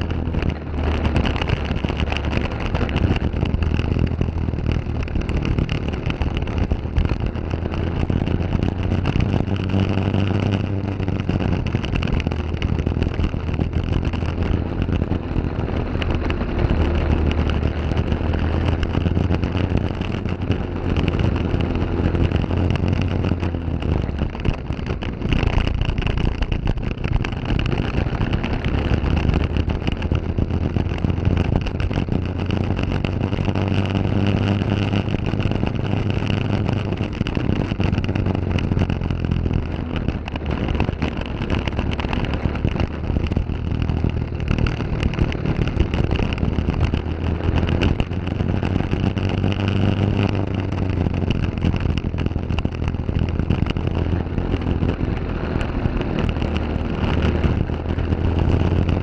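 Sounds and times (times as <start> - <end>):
kart engine at racing speed: 0.0 - 59.0.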